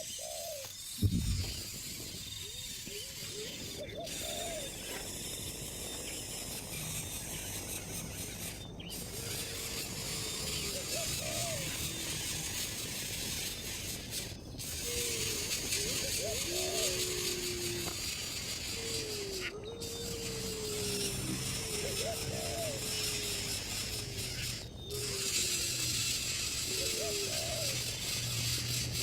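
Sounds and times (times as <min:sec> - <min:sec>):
rising and falling bird calls: 0:00.0 - 0:12.4, 0:14.8 - 0:25.9, 0:26.6 - 0:28.3
raspy insect-like hiss: 0:00.0 - 0:29.0.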